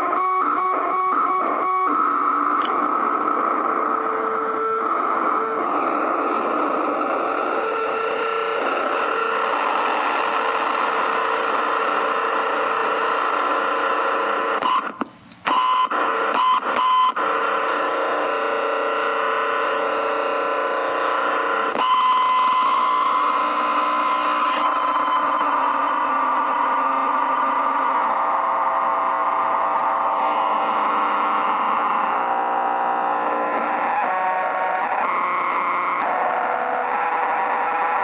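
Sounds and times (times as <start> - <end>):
distorted amplifier noise: 0.0 - 38.0.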